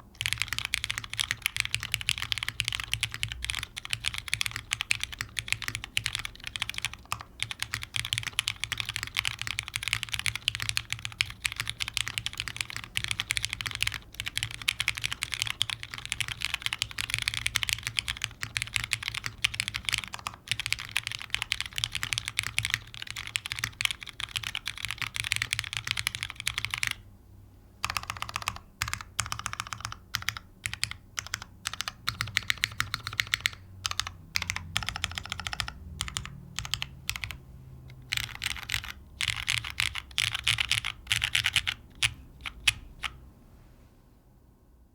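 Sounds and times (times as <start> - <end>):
mechanical keyboard typing: 0.1 - 27.0, 27.8 - 43.2.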